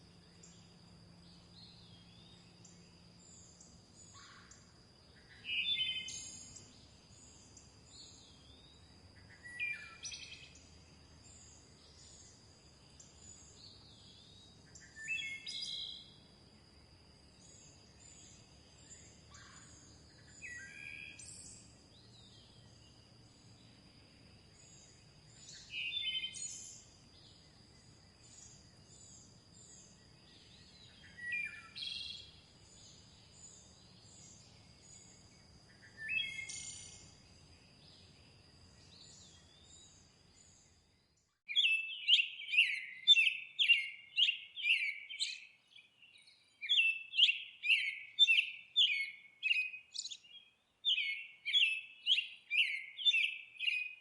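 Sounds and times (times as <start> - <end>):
bird song phrase: 0.0 - 54.0
faint high bird chirps: 0.0 - 54.0.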